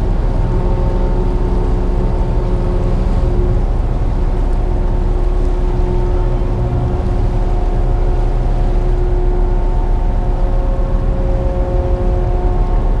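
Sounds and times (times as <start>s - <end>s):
diesel engines rumbling: 0.0s - 13.0s.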